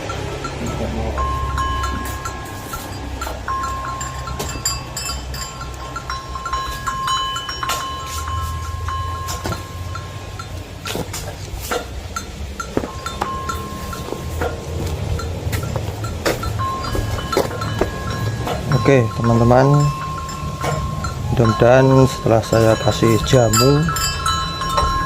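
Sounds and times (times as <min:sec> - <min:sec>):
thin steady high tone: 0:00.0 - 0:11.0, 0:12.2 - 0:25.0.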